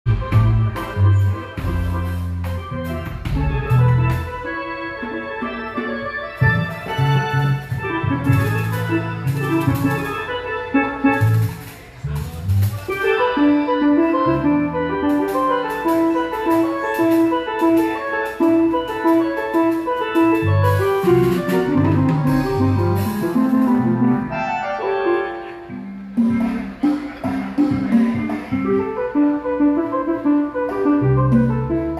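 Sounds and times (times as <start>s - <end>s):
bass notes: 0.0s - 31.9s
electronic keyboard melody: 0.0s - 31.9s
drums and percussion: 0.1s - 13.4s, 14.0s - 24.2s, 25.8s - 29.4s.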